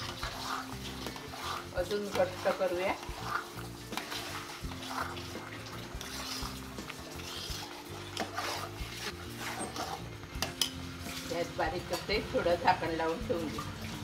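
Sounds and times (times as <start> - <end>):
background music: 0.0 - 14.0
spoon scraping metal pot: 0.0 - 14.0.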